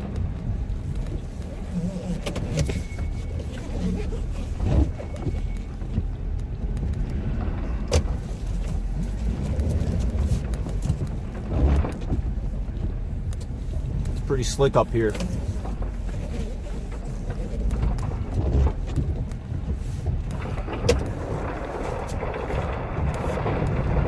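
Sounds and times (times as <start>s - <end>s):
diesel truck engine running: 2.5s - 16.1s, 16.8s - 24.0s.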